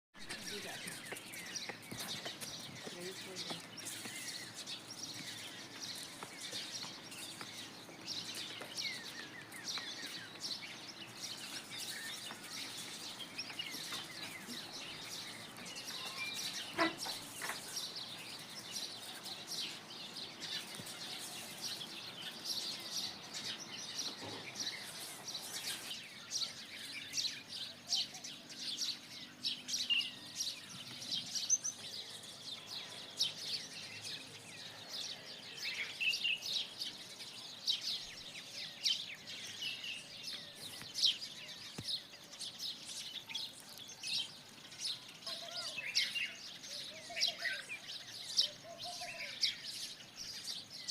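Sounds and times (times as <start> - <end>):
small birds chirping: 0.2 - 50.9.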